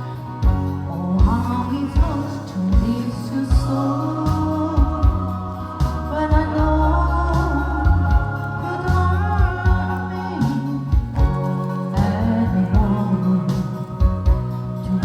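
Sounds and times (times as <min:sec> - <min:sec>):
person singing long notes: 0:00.0 - 0:15.0
pop backing music with beat: 0:00.0 - 0:15.0.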